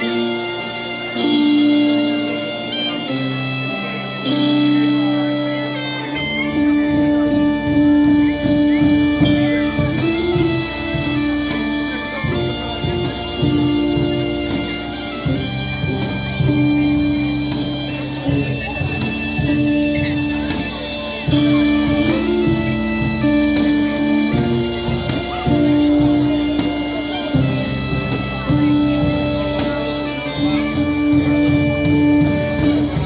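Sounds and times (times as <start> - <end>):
bagpipes playing a tune: 0.0 - 33.0
drums: 0.0 - 33.0.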